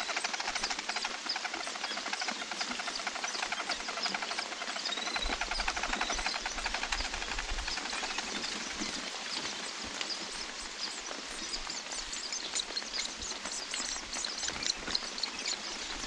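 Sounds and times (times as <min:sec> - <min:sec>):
rain on leaves: 0:00.0 - 0:16.0.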